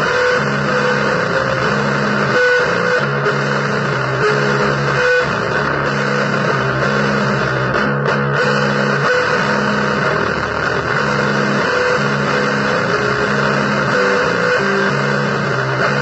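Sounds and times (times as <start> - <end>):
distorted noise: 0.0 - 16.0
held low guitar notes: 0.0 - 16.0.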